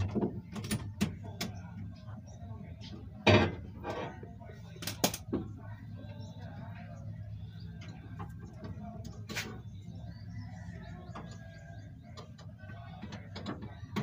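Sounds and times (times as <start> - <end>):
steady low hum: 0.1 - 14.0.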